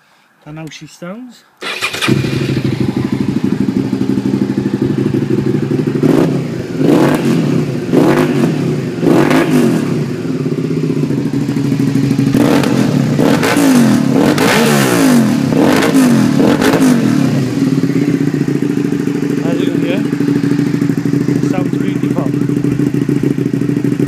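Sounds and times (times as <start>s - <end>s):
motorcycle engine revving: 1.6s - 24.0s.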